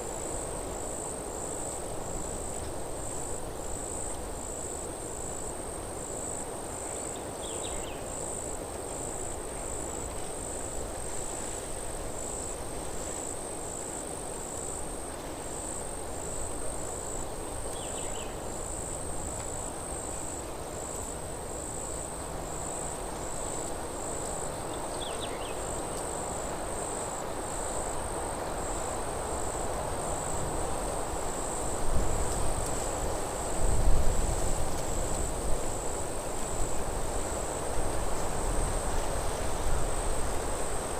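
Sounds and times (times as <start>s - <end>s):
cricket chirping: 0.0s - 40.9s
wind rustling in trees: 0.0s - 40.9s.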